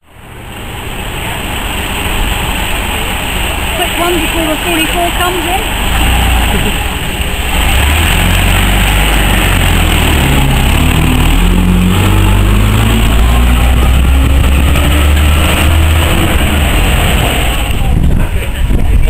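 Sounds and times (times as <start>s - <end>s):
diesel coach engine pulling away: 0.0s - 19.0s.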